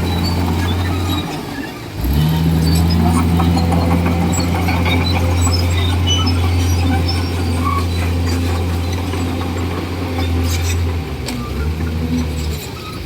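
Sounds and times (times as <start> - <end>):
bulldozer diesel engine running: 0.0 - 13.0
high-pitched squeaks: 2.4 - 13.0.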